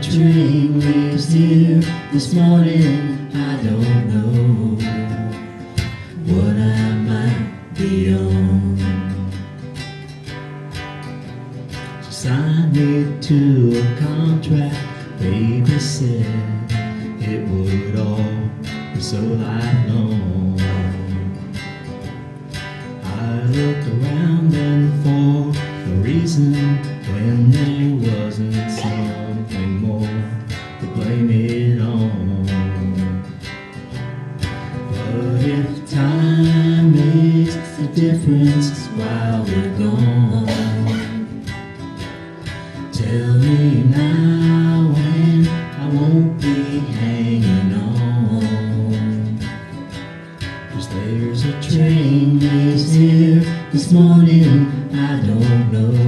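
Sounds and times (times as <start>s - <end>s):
acoustic guitar strumming: 0.0s - 56.0s
guitar melody line: 0.0s - 56.0s.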